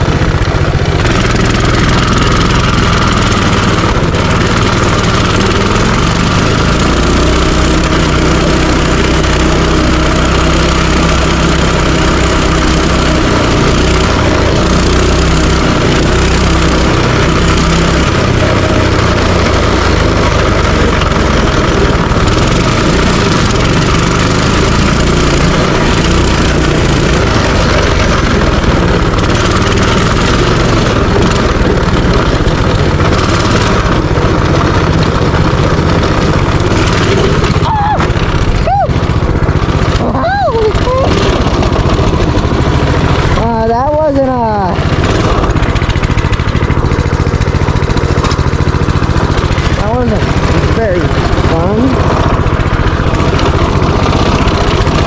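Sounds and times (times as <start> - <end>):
minibike engine running: 0.0 - 55.0.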